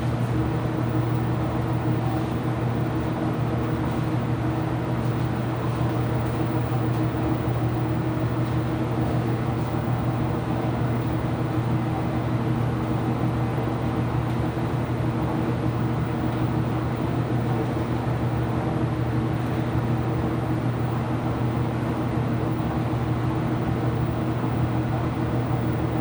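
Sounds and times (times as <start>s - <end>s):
washing machine humming: 0.0s - 26.0s.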